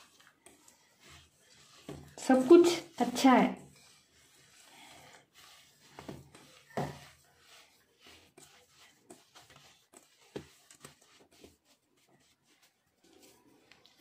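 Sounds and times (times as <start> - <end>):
hands squishing dough in a bowl: 0.0 - 14.0.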